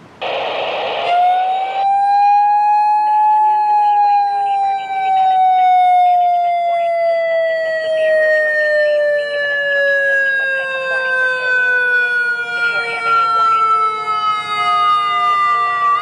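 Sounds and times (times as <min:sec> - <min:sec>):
electronic warning siren tone: 0:00.2 - 0:16.0.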